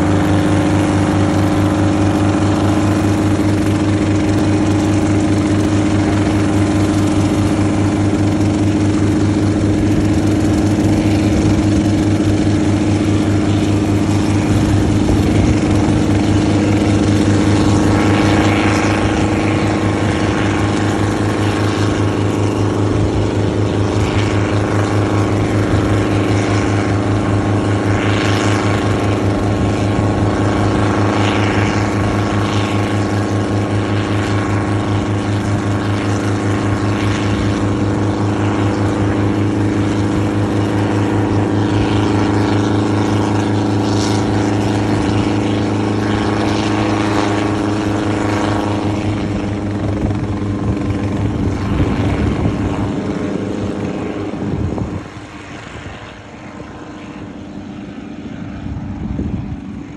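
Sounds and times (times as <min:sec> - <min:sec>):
helicopter engine drone: 0:00.0 - 0:59.9
helicopter rotor chop: 0:00.0 - 0:59.9.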